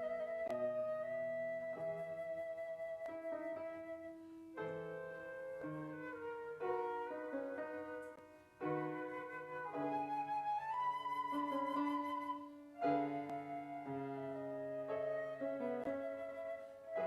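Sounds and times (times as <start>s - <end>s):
slow instrumental church music: 0.0s - 17.0s.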